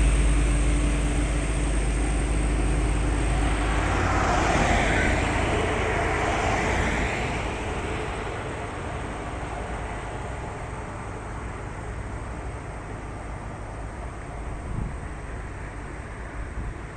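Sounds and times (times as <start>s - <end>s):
diesel truck engine labouring: 0.0s - 16.9s.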